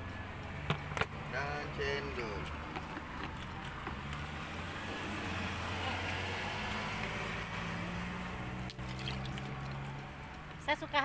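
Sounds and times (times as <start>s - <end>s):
road noise: 0.0s - 11.0s
vehicle engine humming: 0.0s - 11.0s.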